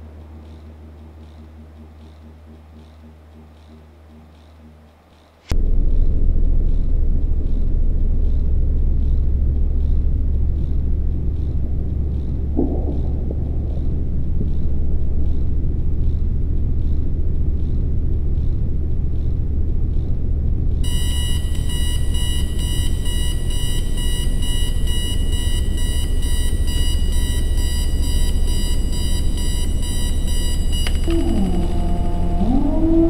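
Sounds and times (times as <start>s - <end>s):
deep rumbling drone: 0.0s - 33.0s.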